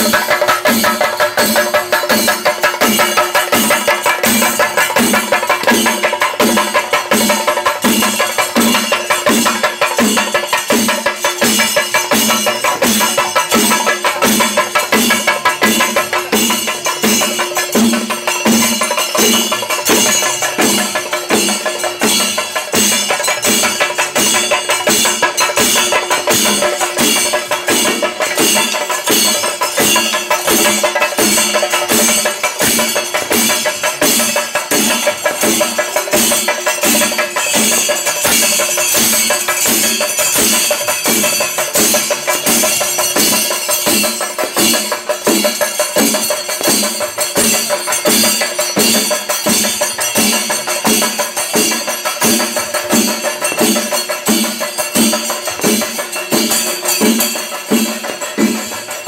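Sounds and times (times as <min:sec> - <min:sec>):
drums beaten with sticks: 0:00.0 - 0:59.0.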